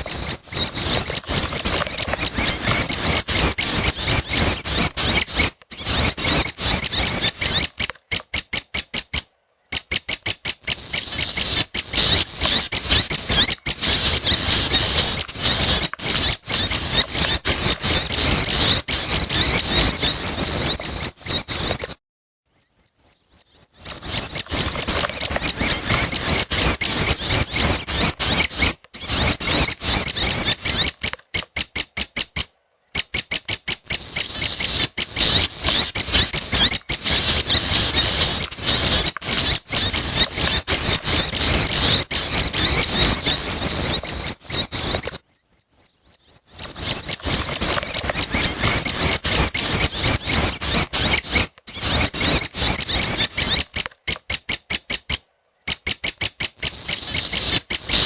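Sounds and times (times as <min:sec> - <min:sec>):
young birds chirping rapidly: 0:00.0 - 0:58.0.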